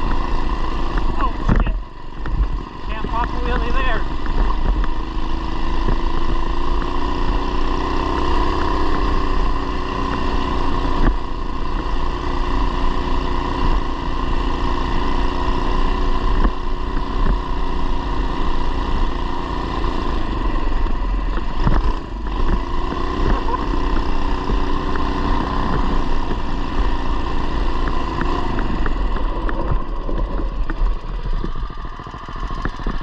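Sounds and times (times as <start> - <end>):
mini bike engine running: 0.0 - 33.0.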